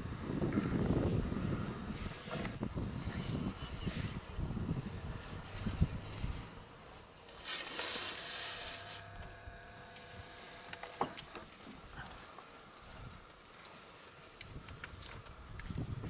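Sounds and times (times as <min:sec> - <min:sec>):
faint steady hum: 0:00.0 - 0:16.0
dry grass and twigs rustling: 0:01.9 - 0:16.0.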